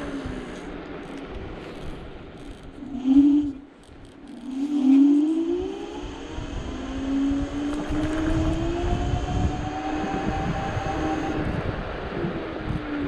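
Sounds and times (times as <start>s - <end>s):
electric scooter motor whining: 0.0s - 13.0s
wind and tyre rumble: 0.0s - 13.0s.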